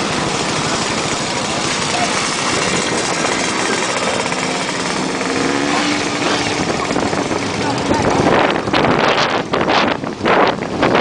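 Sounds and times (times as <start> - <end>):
motorcycle engines pulsing: 0.0 - 11.0.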